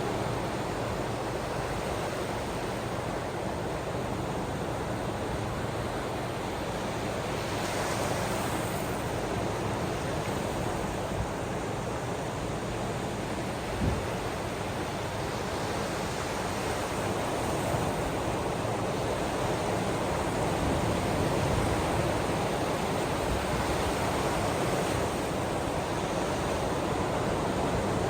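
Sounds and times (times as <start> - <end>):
ocean waves washing on shore: 0.0 - 28.0.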